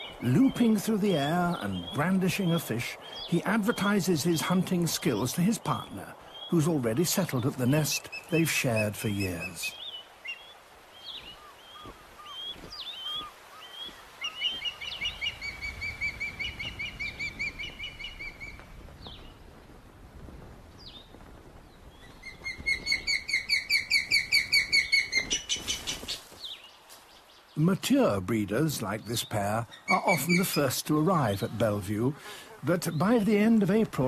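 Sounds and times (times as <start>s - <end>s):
ospreys calling: 0.0s - 18.6s, 22.1s - 34.0s.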